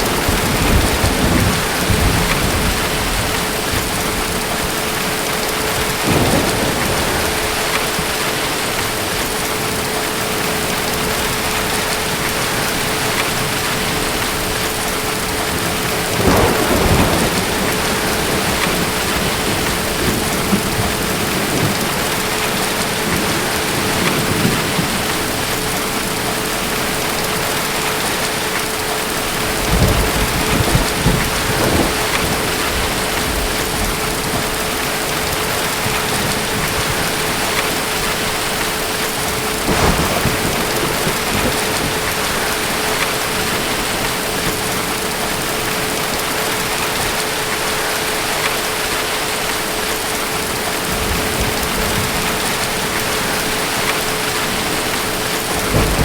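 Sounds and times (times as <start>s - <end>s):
distant thunder rumbling: 0.0s - 48.1s, 49.9s - 56.0s
steady rain: 0.0s - 56.0s.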